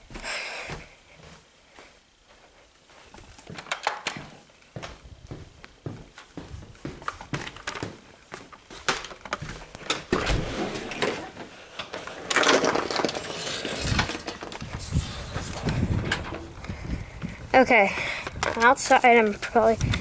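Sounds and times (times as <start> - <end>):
footsteps: 0.0 - 11.6, 13.2 - 20.0.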